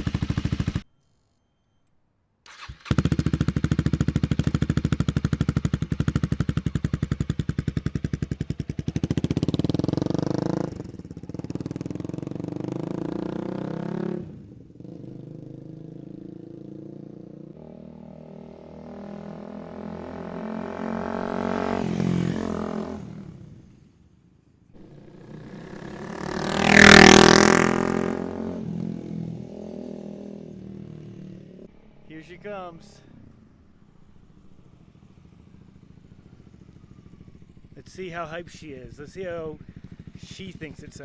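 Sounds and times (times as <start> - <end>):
motorcycle engine running: 0.0 - 0.8, 2.5 - 24.1, 24.8 - 31.7, 34.0 - 41.0.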